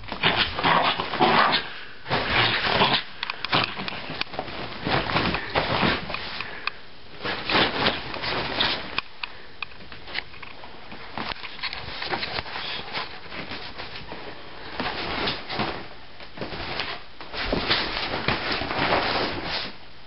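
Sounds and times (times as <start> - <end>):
bedding rustling: 0.0 - 20.0.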